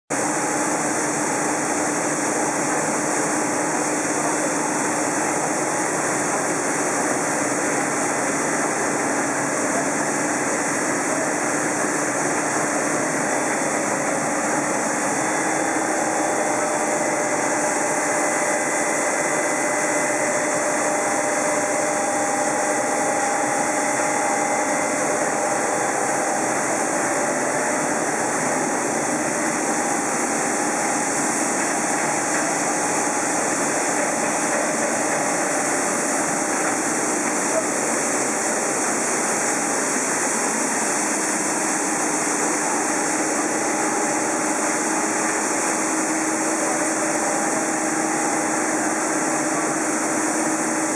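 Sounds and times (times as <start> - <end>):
faint hums and whines: 0.2 - 50.9
machine drone: 0.7 - 50.9.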